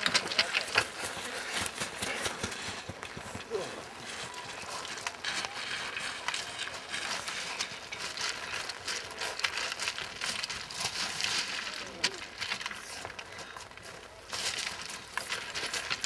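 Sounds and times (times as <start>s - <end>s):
running footsteps on loose scree: 0.0s - 16.0s.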